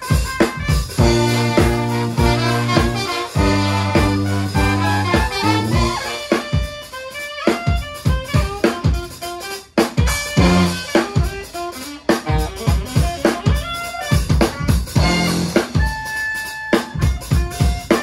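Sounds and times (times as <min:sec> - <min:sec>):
band music: 0:00.0 - 0:18.0
drum kit beat: 0:00.0 - 0:18.0.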